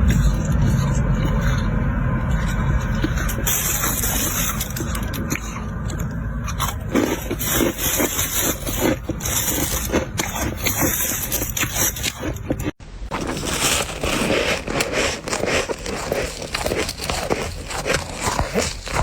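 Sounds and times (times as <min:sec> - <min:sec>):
ice cracking and crunching: 0:00.0 - 0:19.0
ice scraping: 0:00.0 - 0:19.0.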